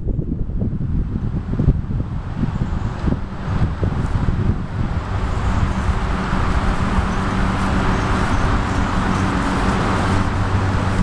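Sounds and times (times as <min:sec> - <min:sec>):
steady engine hum: 0:00.0 - 0:11.0
wind rumbling on microphone: 0:00.0 - 0:11.0.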